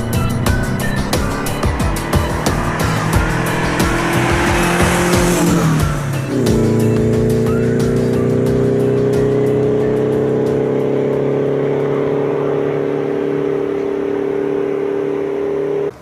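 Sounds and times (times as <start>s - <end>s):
engine running at high revs: 0.0s - 16.0s.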